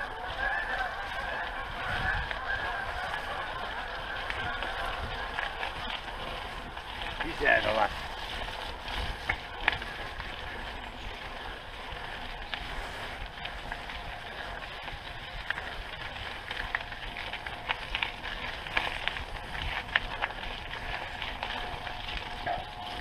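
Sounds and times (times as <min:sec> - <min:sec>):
gravel crunches: 0:00.0 - 0:23.0
tyre rolling on gravel: 0:00.0 - 0:23.0.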